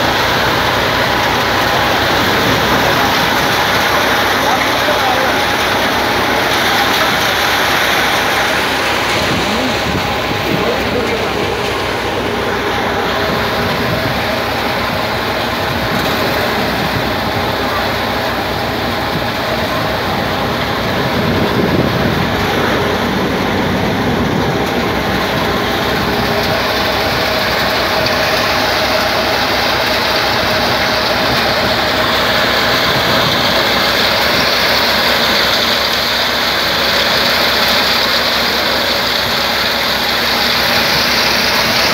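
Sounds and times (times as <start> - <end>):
engine-driven machinery running: 0.0 - 41.9.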